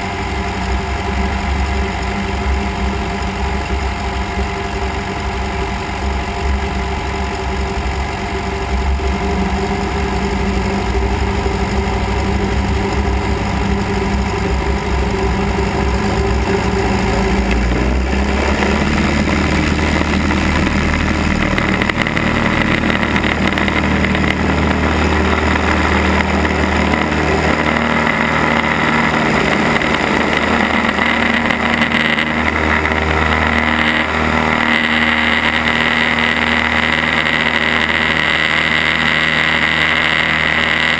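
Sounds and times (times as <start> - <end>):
propeller plane engine running: 0.0 - 40.9.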